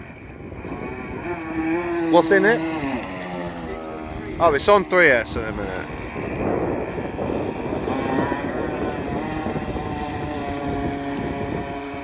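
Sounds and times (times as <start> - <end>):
electric boat motor whining: 0.0 - 12.0.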